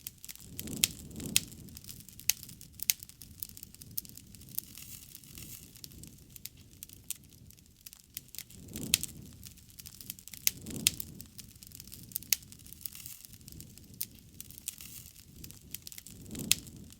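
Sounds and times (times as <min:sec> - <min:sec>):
fire rumbling: 0:00.0 - 0:16.9
wood fire crackling: 0:00.0 - 0:16.9.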